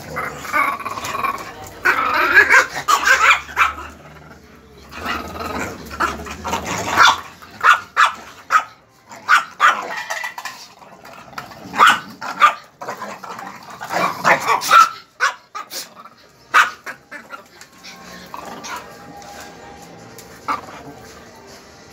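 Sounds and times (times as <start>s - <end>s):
dogs barking and yipping: 0.0s - 21.4s.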